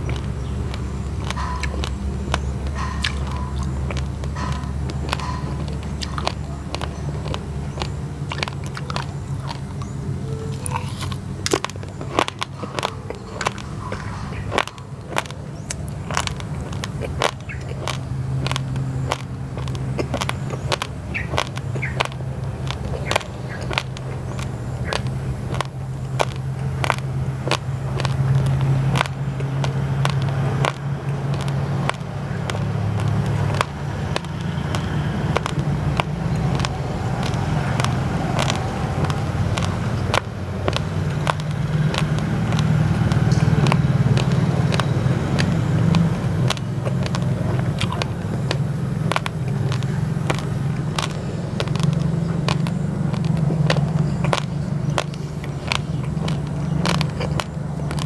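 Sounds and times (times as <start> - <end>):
raw rice crunching being chewed: 0.0 - 58.0.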